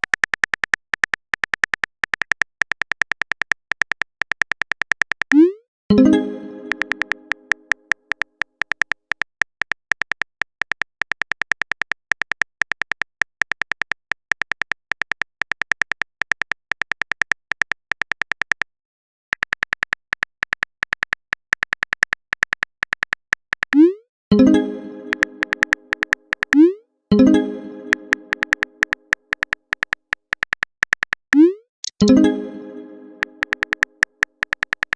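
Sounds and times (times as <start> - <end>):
simulated keyboard typing ticks: 0.0 - 18.7, 19.3 - 34.9.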